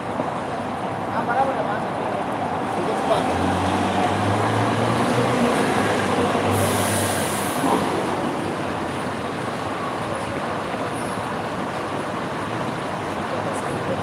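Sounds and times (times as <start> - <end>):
heavy vehicle engine hum: 0.0 - 14.0
street traffic: 0.0 - 14.0.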